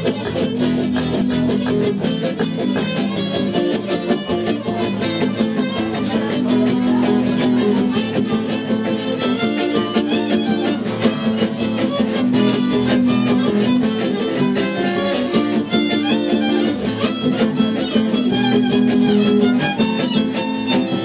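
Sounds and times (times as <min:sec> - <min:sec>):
strummed acoustic guitars: 0:00.0 - 0:21.0
bowed violin melody: 0:00.1 - 0:21.0.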